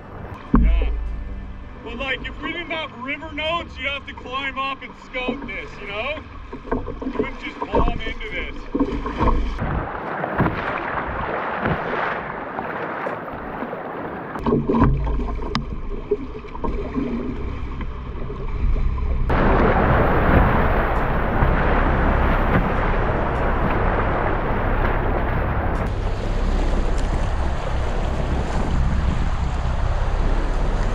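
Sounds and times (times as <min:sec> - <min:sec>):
water splashing along kayak hull: 0:00.0 - 0:30.9
whitewater rushing: 0:01.8 - 0:15.2, 0:19.3 - 0:30.9
paddle strokes: 0:01.9 - 0:30.9.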